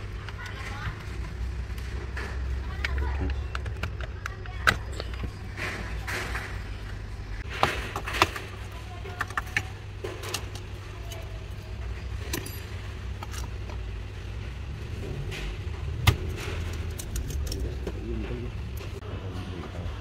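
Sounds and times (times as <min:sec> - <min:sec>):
plastic parts clicking and rattling: 0:00.0 - 0:13.9, 0:14.9 - 0:19.0.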